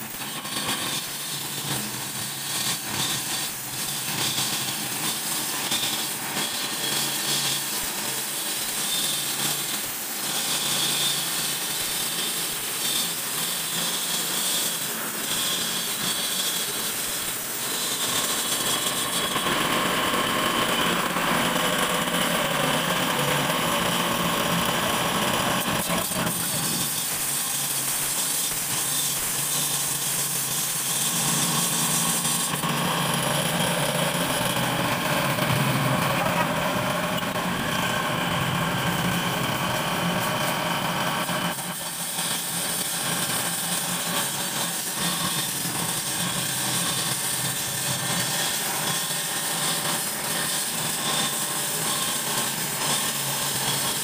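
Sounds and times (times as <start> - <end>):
concrete saw cutting: 0.0 - 54.0.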